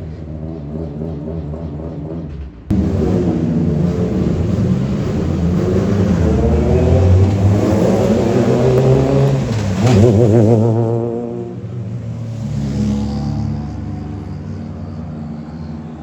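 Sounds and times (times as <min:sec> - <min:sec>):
rally car engine revving: 0:00.0 - 0:15.5.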